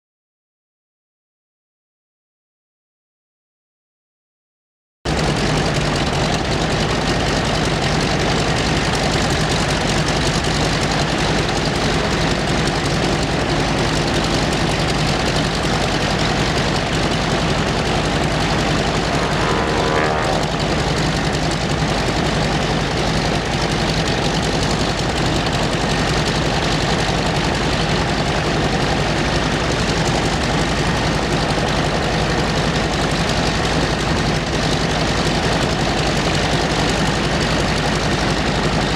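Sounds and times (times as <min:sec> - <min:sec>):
aircraft engine running: 0:05.1 - 0:38.9.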